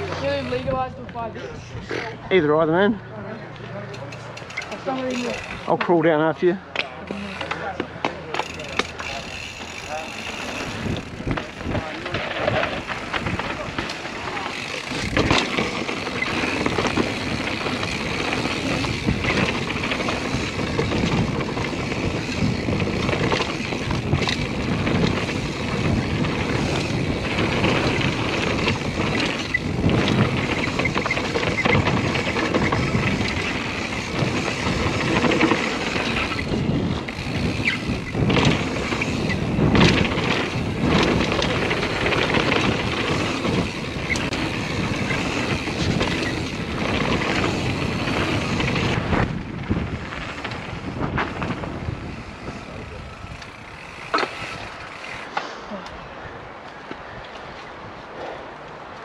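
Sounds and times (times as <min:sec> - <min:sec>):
bike knocking and rattling: 0:00.0 - 0:01.3, 0:03.7 - 0:55.8
bike tyres on loose dirt: 0:00.0 - 0:01.3, 0:03.8 - 0:59.0.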